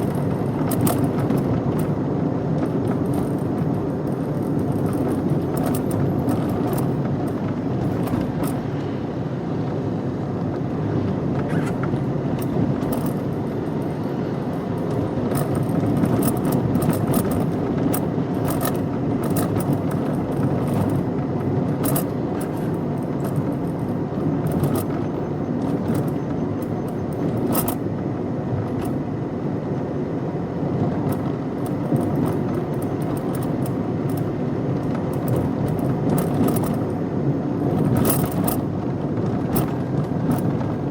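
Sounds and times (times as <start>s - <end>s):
small clicks and rattles: 0.0s - 2.0s, 2.6s - 8.7s, 11.4s - 27.9s, 28.6s - 29.0s, 30.8s - 37.0s, 37.6s - 40.9s
car engine and road noise: 0.0s - 40.9s.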